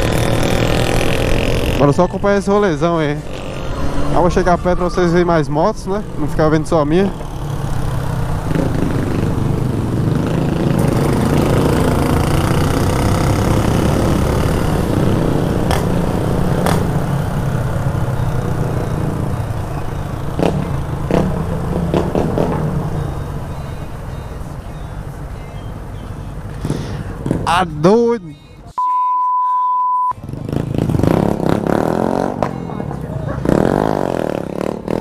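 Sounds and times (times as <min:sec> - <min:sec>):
motorcycle engine accelerating: 0:00.0 - 0:24.2, 0:26.6 - 0:27.7, 0:30.2 - 0:35.0.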